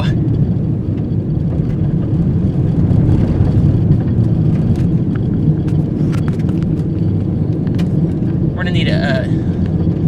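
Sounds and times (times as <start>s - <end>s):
car interior engine and road rumble: 0.0s - 10.0s.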